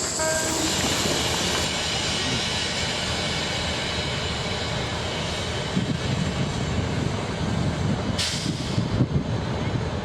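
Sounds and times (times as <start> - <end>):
diesel train passing: 0.0 - 10.0.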